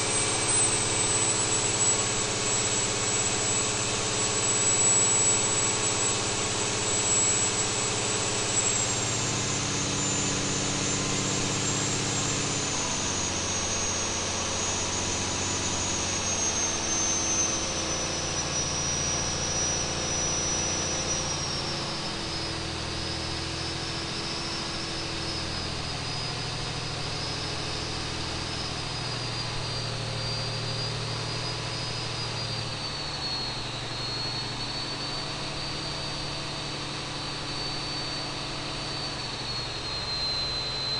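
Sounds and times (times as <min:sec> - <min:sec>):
turbocharger whine: 0:00.0 - 0:40.9.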